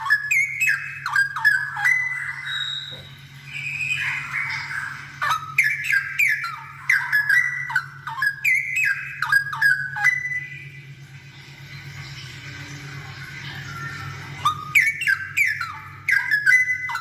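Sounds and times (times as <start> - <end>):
bird singing liquid whistled notes: 0.0 - 17.0
steady low hum: 0.0 - 17.0.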